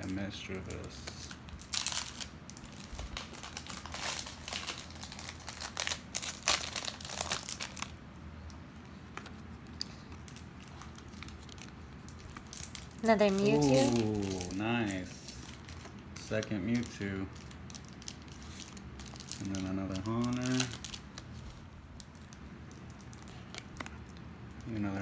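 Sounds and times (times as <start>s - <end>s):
plastic wrapper crinkling and tearing: 0.0s - 8.0s, 9.0s - 25.0s.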